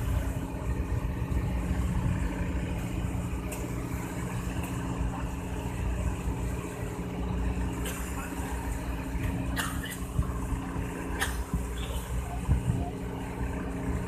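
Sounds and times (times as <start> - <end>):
boat engine rumbling: 0.0 - 14.0
water rushing along hull: 0.0 - 14.0.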